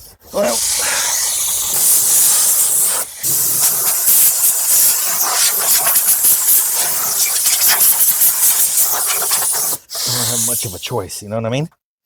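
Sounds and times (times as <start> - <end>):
loud steady hiss: 0.4 - 11.2.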